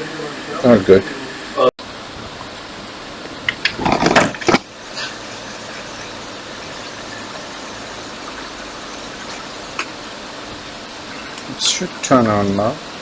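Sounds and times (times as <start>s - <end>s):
fan noise: 0.0s - 13.0s.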